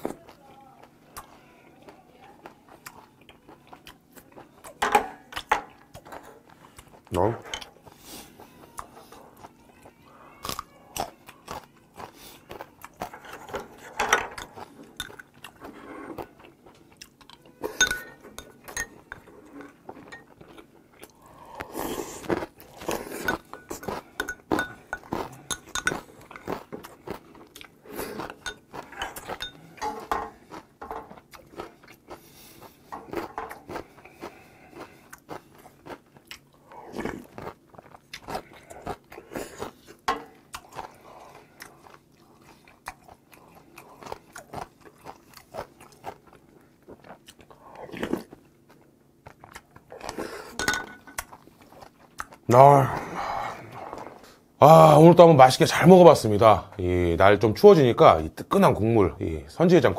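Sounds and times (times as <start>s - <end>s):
chewing and smacking: 0.0s - 54.3s.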